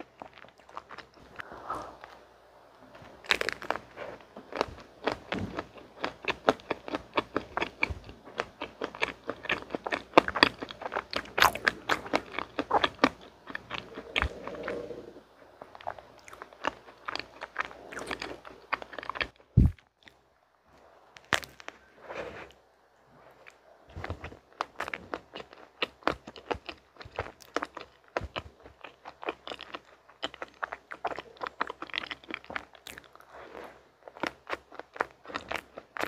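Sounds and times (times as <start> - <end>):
biting and chewing ice cream: 0.0 - 2.2, 3.0 - 20.3, 21.1 - 36.0.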